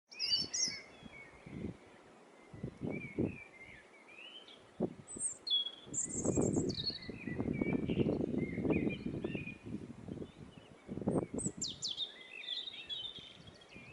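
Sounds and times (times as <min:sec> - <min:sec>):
small birds chirping: 0:00.1 - 0:13.9.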